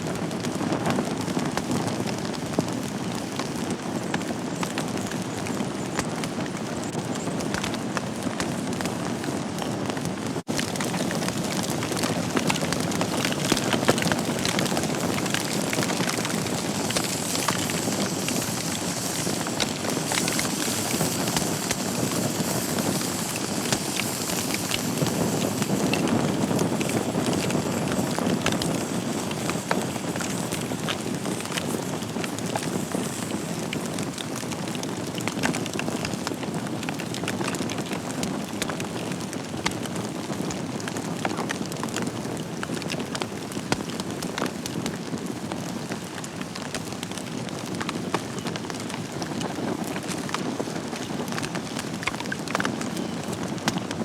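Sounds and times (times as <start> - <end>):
logs crackling and popping: 0.0 - 54.0
fire flames hissing: 0.1 - 54.0.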